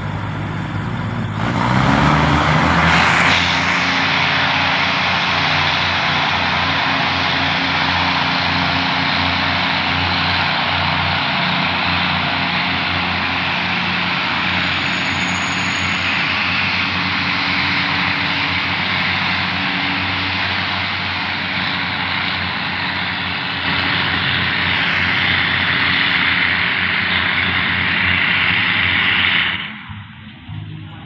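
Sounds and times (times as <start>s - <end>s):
diesel train engine drone: 0.0s - 31.0s
wheel and rail noise: 0.0s - 31.0s.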